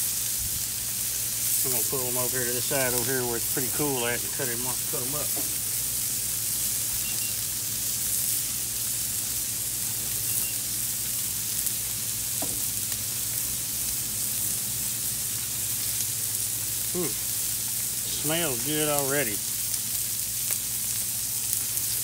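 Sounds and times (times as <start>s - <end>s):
steaks sizzling on a griddle: 0.0s - 22.0s.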